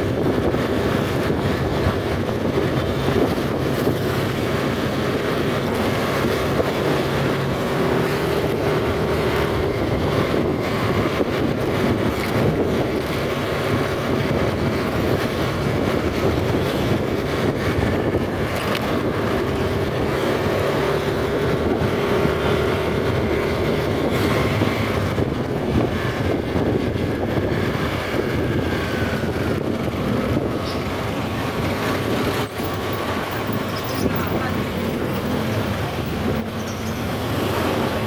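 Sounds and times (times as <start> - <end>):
road noise: 0.0 - 38.0
wind: 0.0 - 38.0.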